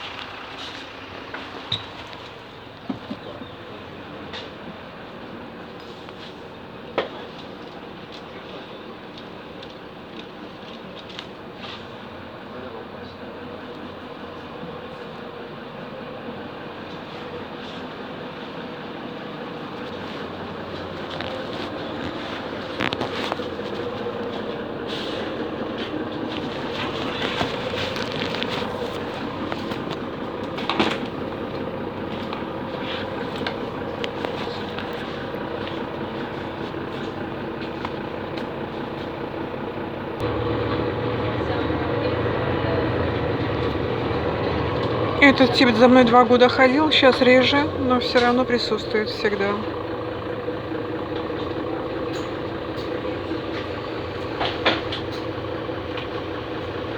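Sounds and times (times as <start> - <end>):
vehicle rumble and hiss: 0.0 - 56.9.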